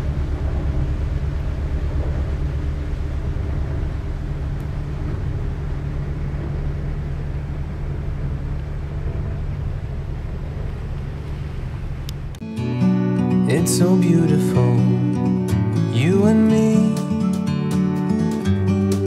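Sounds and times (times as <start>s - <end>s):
ship engine drone: 0.0s - 19.0s.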